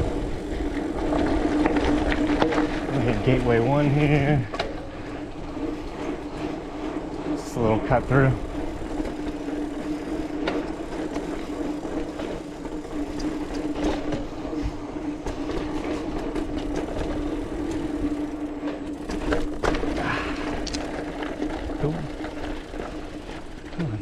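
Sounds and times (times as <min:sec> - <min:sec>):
bike clicks and rattles: 0:00.0 - 0:24.0
bike tyres rolling over dirt: 0:00.0 - 0:24.0
steady hum: 0:00.0 - 0:24.0.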